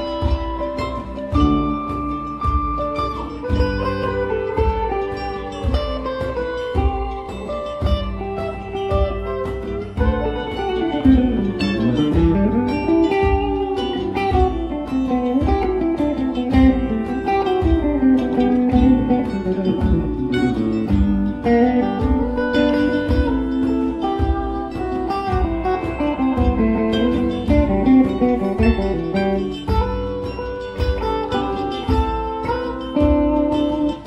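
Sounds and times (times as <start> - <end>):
conga drums: 0.0 - 34.0
electric guitars: 0.0 - 34.0.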